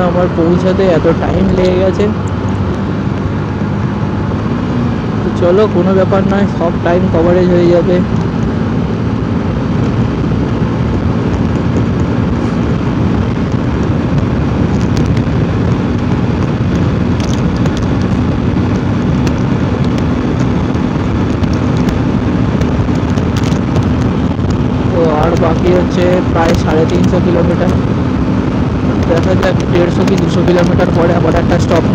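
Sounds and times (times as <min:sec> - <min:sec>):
motorcycle engine hum: 0:00.0 - 0:31.9
wind rushing over microphone: 0:00.0 - 0:31.9.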